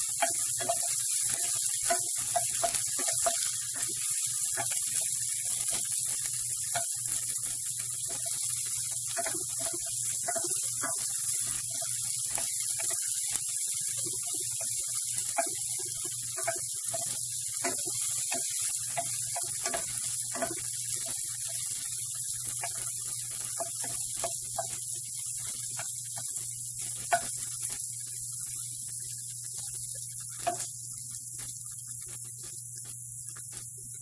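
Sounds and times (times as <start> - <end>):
onion sizzling in a pan: 0.0 - 34.0.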